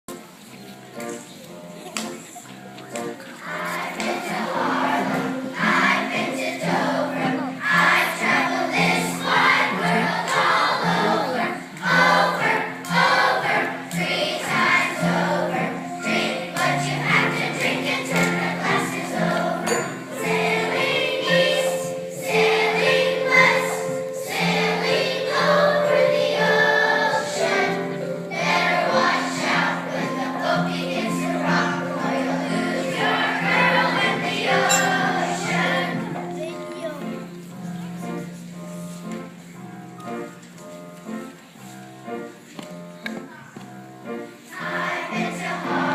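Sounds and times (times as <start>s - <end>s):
children singing folk song: 0.2s - 45.9s.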